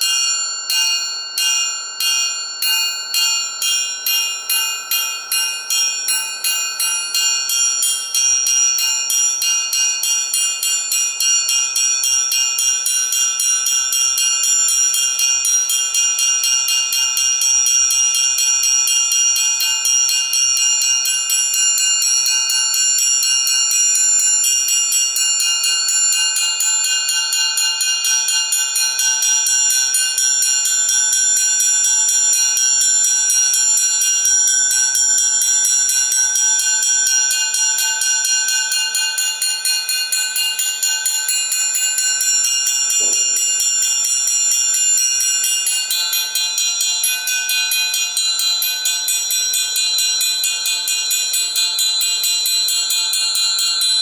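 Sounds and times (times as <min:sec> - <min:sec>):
triangle tremolo ringing: 0:00.0 - 0:54.0.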